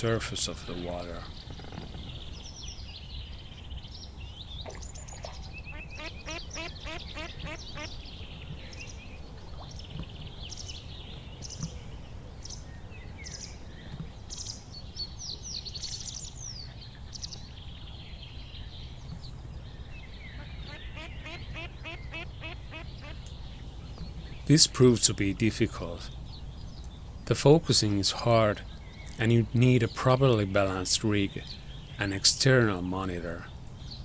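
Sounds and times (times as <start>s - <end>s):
low background rumble: 0.0s - 34.0s
small birds singing and chirping: 0.0s - 34.0s.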